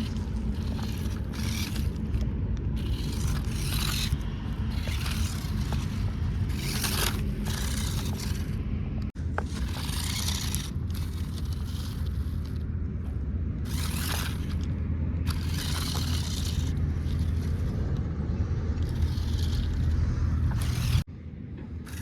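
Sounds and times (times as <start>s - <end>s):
rc car motor hum: 0.0s - 22.0s
tyres churning through mud: 0.0s - 22.0s.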